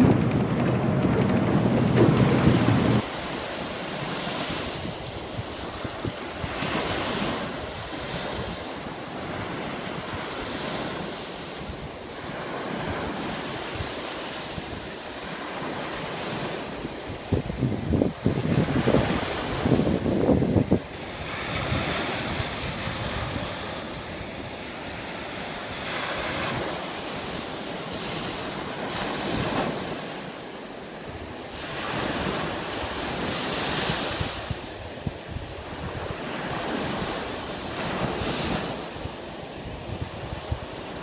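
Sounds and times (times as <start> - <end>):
waves breaking on sand beach: 0.0 - 41.0
wind buffeting microphone: 0.0 - 41.0.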